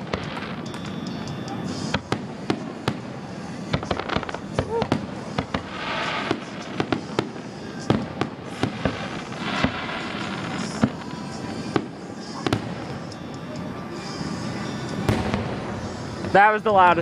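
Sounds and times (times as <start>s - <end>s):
fireworks shells bursting with sharp bangs: 0.0s - 17.0s.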